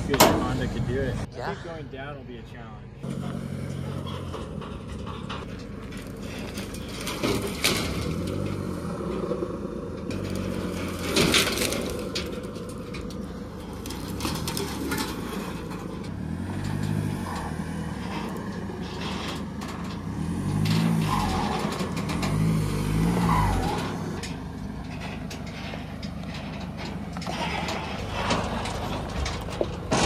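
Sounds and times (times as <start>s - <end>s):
tires and trailer crunching: 0.0s - 30.0s
diesel engine revving: 2.8s - 30.0s.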